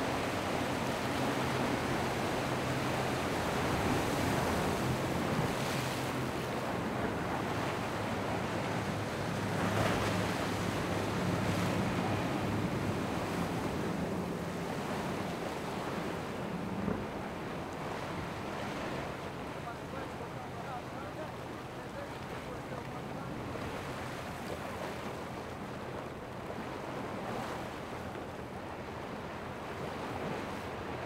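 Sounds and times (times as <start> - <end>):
choppy water wash: 0.0 - 31.0
outboard engines droning: 0.0 - 31.0.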